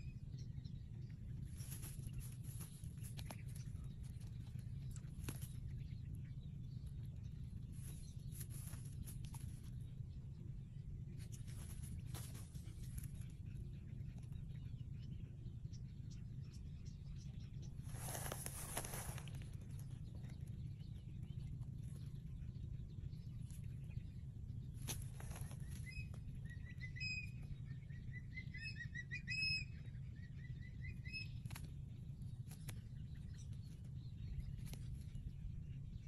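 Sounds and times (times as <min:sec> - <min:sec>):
bird chirping: 0:00.0 - 0:36.0
steady low rumble: 0:00.0 - 0:36.0.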